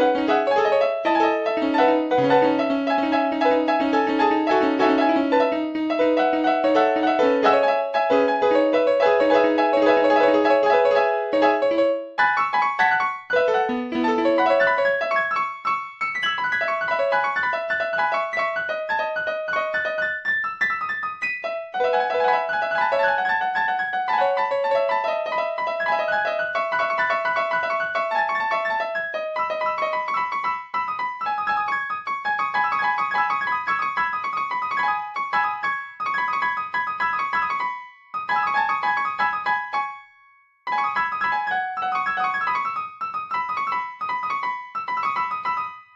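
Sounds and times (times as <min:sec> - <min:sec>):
solo piano music: 0:00.0 - 0:45.9.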